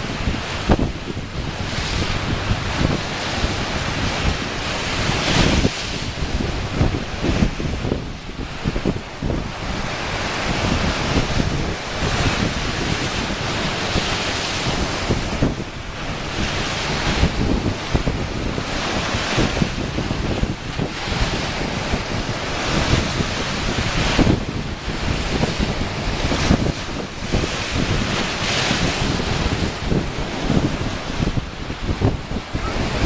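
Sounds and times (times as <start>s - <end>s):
ocean waves washing against rocks: 0.0s - 33.0s
wind buffeting microphone: 0.0s - 33.0s.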